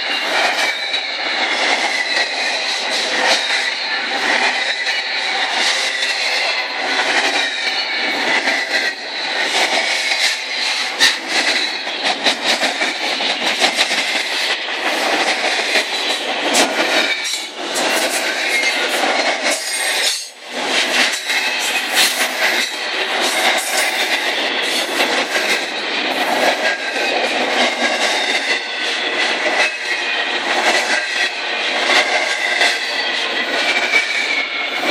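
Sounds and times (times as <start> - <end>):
train cars clattering over rails: 0.0 - 34.9
wheels squealing on rail: 0.0 - 34.9.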